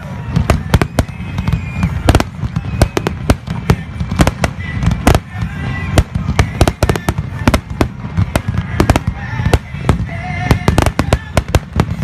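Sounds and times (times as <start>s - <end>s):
fireworks bangs and cracks: 0.0s - 12.0s
low rumble of distant fireworks: 0.0s - 12.0s.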